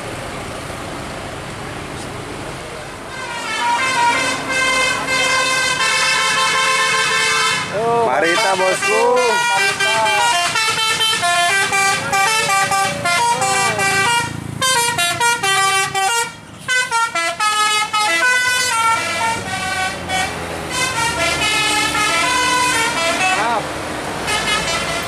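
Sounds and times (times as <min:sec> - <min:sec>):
bus air horn melody: 0:03.1 - 0:23.6, 0:24.3 - 0:25.0.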